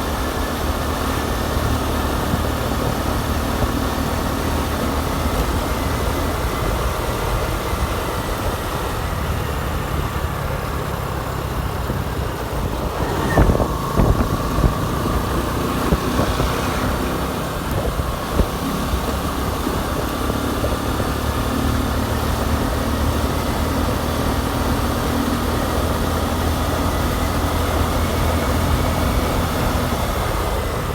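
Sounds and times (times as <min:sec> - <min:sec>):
motorcycle engine running: 0:00.0 - 0:30.9
road noise: 0:00.0 - 0:30.9.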